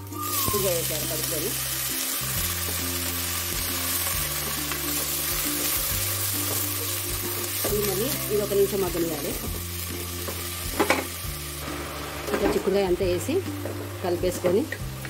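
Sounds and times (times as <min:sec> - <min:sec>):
background music: 0:00.0 - 0:15.0
vegetables sizzling in hot oil: 0:00.0 - 0:15.0.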